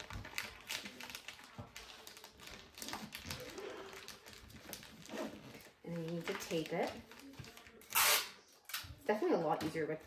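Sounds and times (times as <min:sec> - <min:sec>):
wrapping paper rustling: 0:00.0 - 0:08.8.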